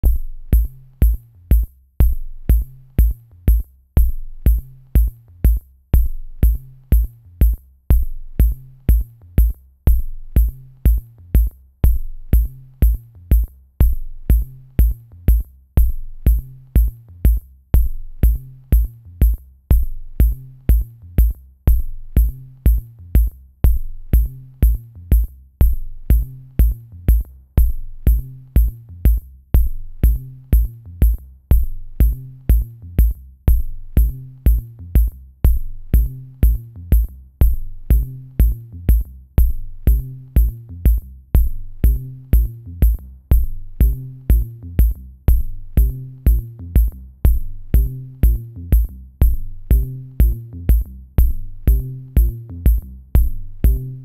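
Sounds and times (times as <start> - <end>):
electronic music with drum machine: 0.0 - 54.0.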